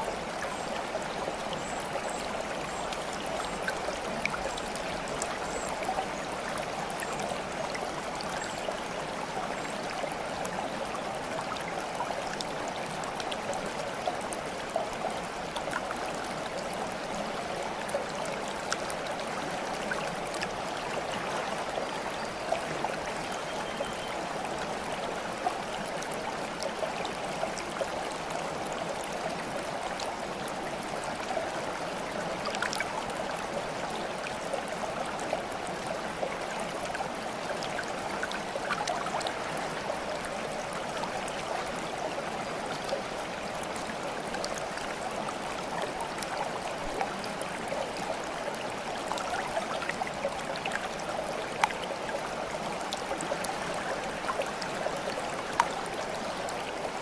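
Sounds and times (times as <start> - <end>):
running water babbling: 0.0 - 57.0
water splashes and drips: 0.0 - 57.0.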